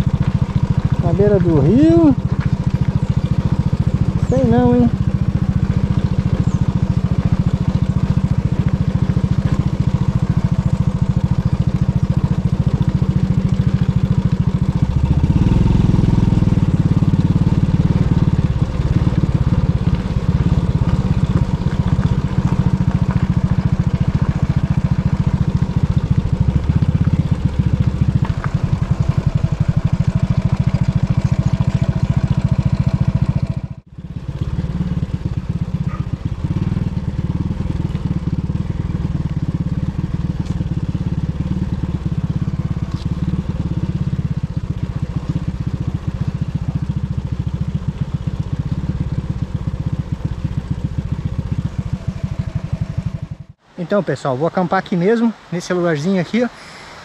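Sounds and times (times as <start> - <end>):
small motorcycle engine running: 0.0 - 53.7.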